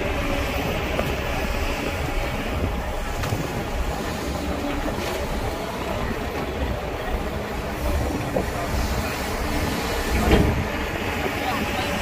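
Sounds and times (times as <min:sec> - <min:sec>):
diesel machinery rumbling: 0:00.0 - 0:12.0.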